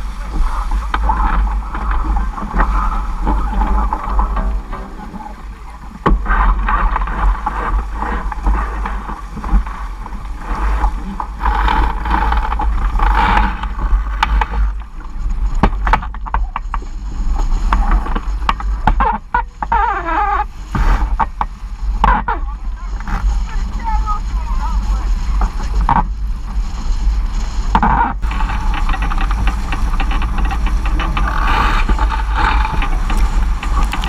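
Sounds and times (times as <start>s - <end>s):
water rushing and splashing: 0.0s - 34.0s
wind buffeting microphone: 0.0s - 34.0s.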